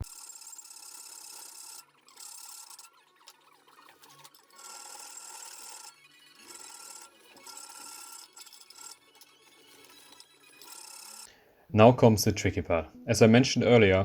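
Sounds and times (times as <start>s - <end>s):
file rasping on knife blade: 0.0s - 11.3s.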